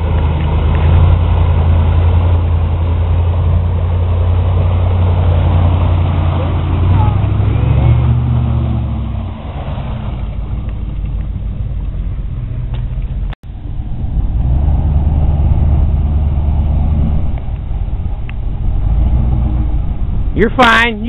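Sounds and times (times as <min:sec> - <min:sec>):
truck engine running under load: 0:00.0 - 0:20.4.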